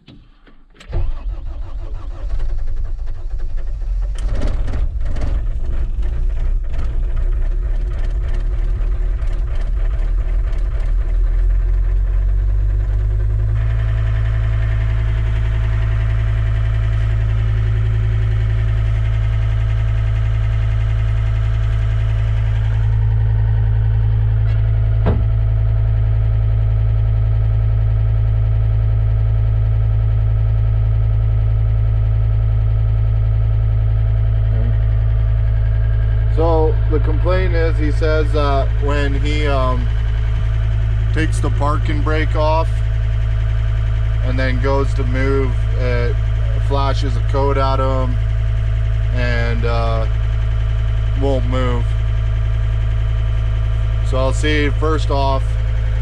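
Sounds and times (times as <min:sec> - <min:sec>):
diesel engine starting and idling: 0:00.0 - 0:56.0.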